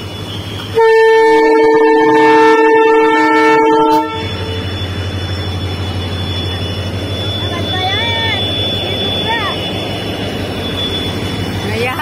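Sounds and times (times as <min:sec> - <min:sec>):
locomotive air horn chord: 0:00.0 - 0:11.3
locomotive running rumble: 0:00.0 - 0:12.0.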